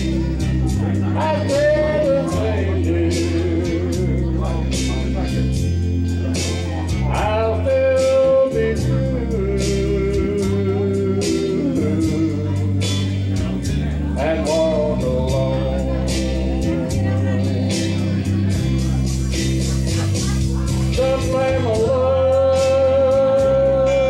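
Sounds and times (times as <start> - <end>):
guitar: 0.0 - 24.0
man singing into a microphone: 0.0 - 24.0
steady drum beat: 0.0 - 24.0.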